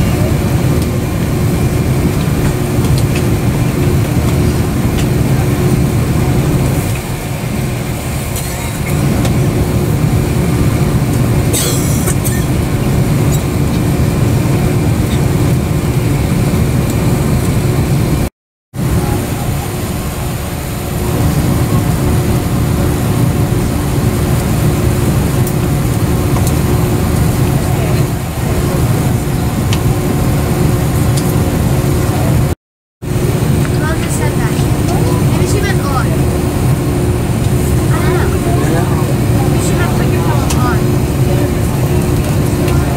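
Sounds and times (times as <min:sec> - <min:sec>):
aircraft cabin ventilation drone: 0:00.0 - 0:42.9.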